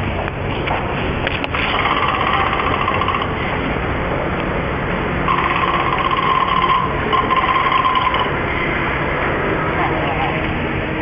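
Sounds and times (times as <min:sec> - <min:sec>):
steady noisy background: 0:00.0 - 0:11.0.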